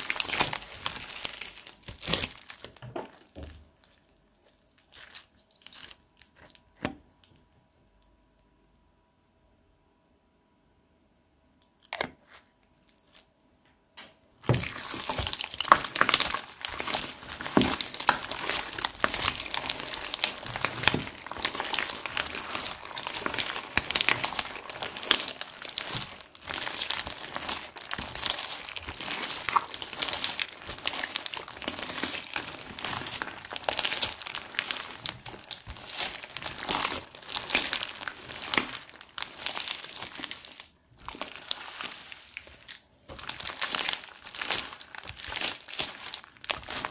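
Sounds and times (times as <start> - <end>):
slime crackling and popping: 0.0 - 7.3, 14.4 - 46.9.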